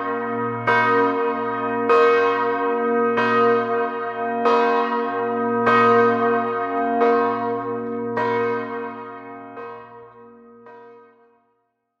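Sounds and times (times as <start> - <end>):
large bell tolling: 0.0 - 11.0.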